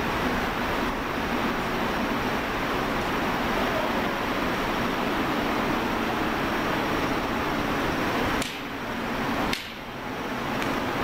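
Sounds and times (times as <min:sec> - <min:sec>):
factory hall hiss and hum: 0:00.0 - 0:11.0.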